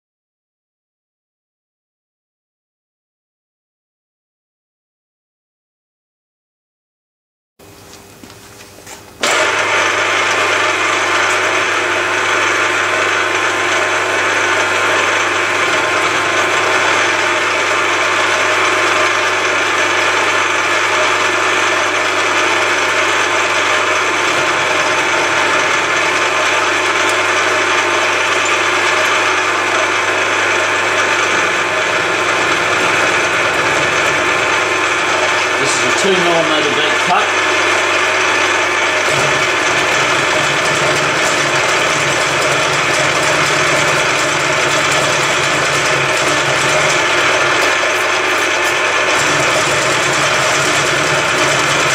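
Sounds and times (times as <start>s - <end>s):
low motor hum: 7.9s - 51.9s
milling machine cutting steel: 9.2s - 51.9s.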